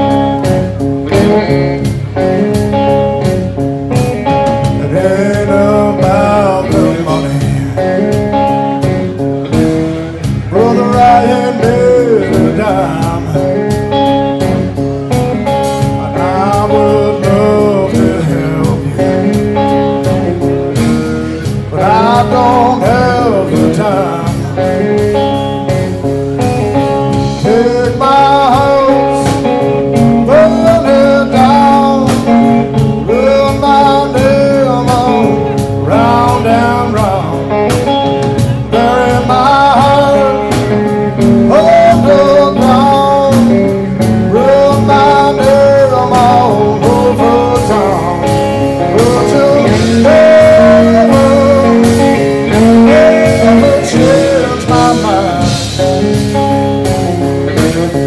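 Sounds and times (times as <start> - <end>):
guitar: 0.0 - 58.0
man singing blues: 0.0 - 58.0.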